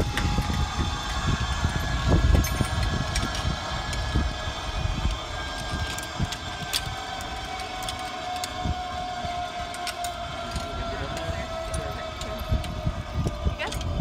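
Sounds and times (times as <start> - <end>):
wind rumble on microphone: 0.0 - 14.0
zipline pulleys whining on cable: 0.0 - 14.0.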